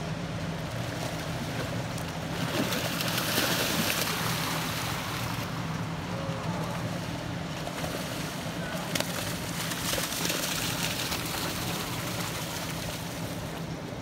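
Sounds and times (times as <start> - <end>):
fish splashing: 0.5 - 13.6.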